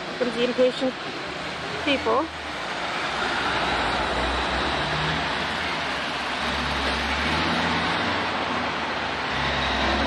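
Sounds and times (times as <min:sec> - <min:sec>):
traffic rushing over bridge: 0:00.0 - 0:10.0.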